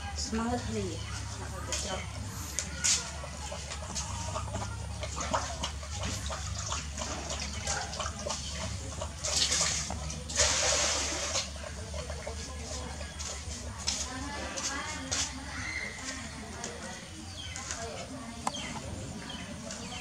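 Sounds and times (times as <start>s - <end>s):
dogs chewing and slurping: 0.0s - 20.0s.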